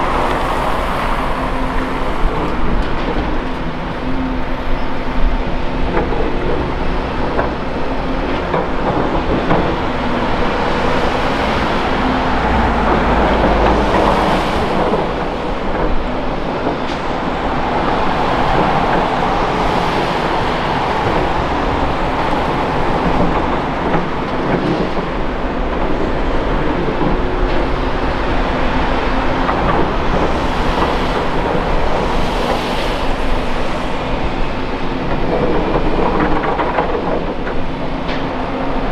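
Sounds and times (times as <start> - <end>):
dump truck engine running: 0.0 - 38.9
excavator engine and hydraulics: 0.0 - 38.9.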